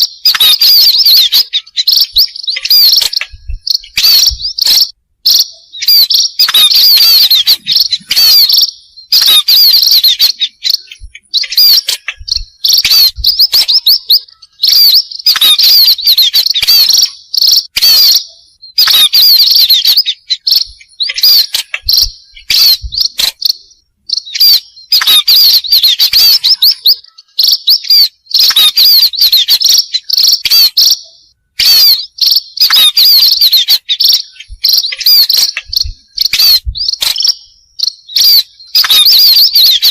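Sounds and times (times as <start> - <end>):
recorded bird chirping: 0.0 - 39.9.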